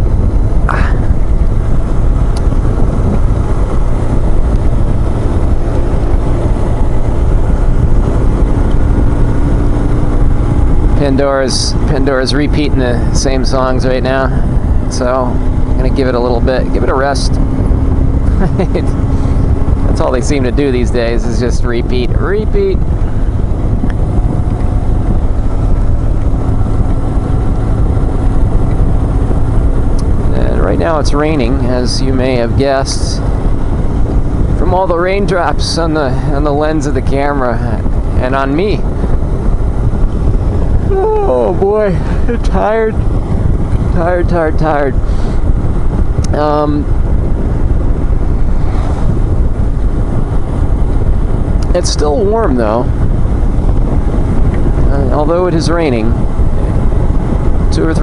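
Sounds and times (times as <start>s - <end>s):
motorcycle engine cruising: 0.0s - 58.0s
wind rush over microphone: 0.0s - 58.0s.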